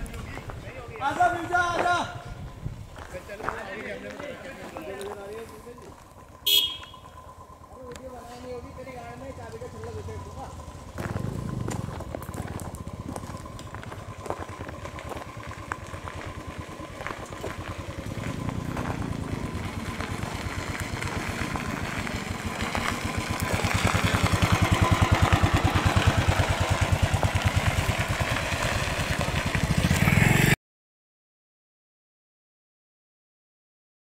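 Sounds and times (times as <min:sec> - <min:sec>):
motorcycle engines approaching: 0:00.0 - 0:30.6.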